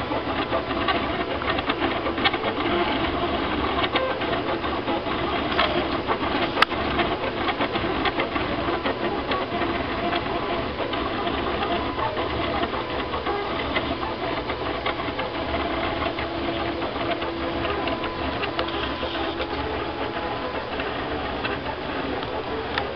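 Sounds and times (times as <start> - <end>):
stepper motors buzzing and whirring: 0.0 - 22.9.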